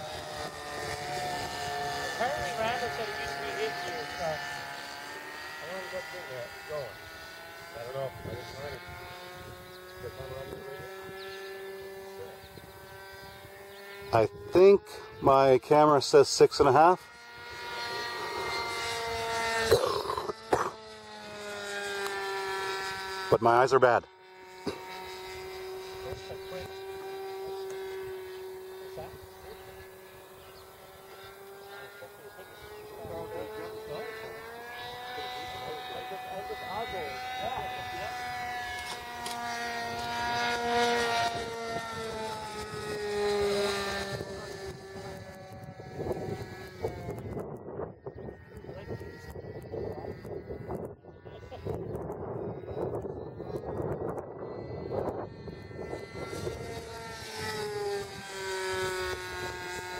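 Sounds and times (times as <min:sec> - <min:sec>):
model airplane motor droning: 0:00.0 - 0:59.9.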